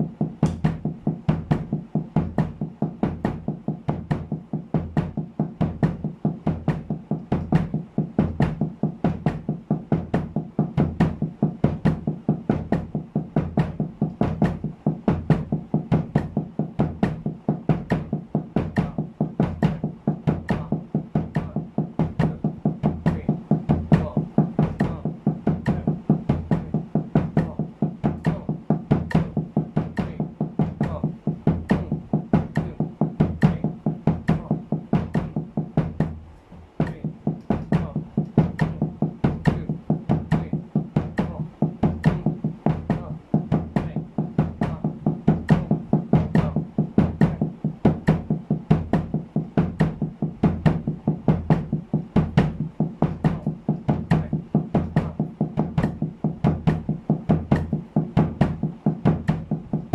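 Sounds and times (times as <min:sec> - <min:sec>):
kick drum strokes: 0:00.0 - 0:59.9
muffled snare drum strokes: 0:00.0 - 0:59.9.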